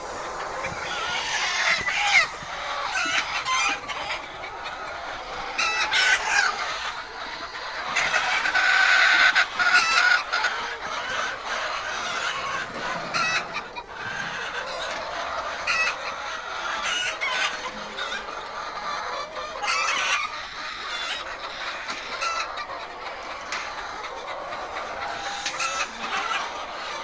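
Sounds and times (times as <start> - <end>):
hens clucking and squawking: 0.0 - 27.0.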